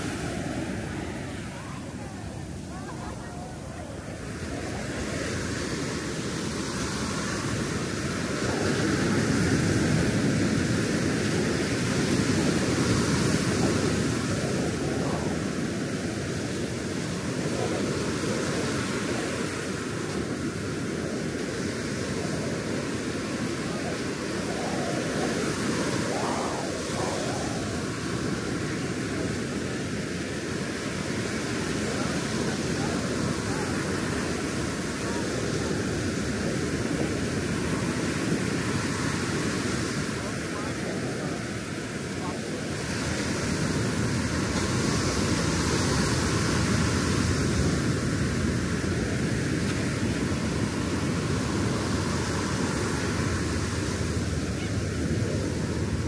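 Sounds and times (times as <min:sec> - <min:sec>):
ocean surf washing up beach: 0:00.0 - 0:56.0.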